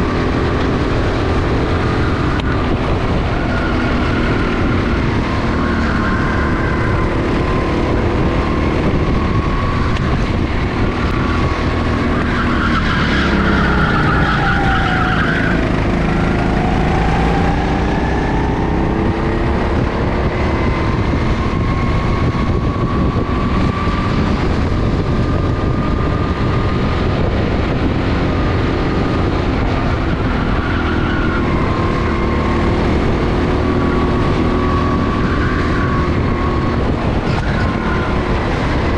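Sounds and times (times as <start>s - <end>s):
go-kart engine running hard: 0.0s - 38.9s.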